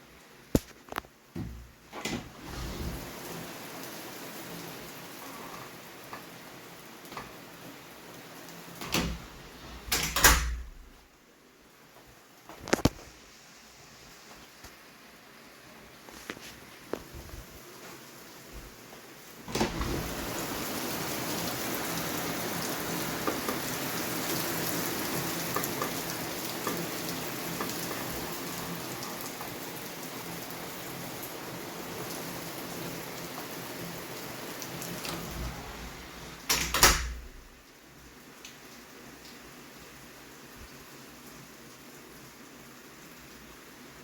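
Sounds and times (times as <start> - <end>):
heavy rain falling: 2.3 - 11.1, 16.8 - 44.0.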